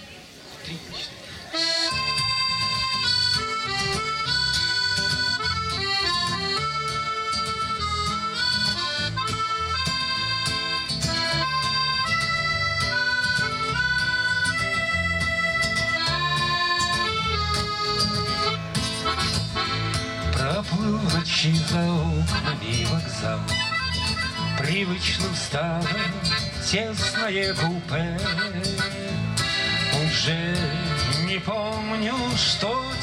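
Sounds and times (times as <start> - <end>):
accordion playing: 1.5 - 33.0.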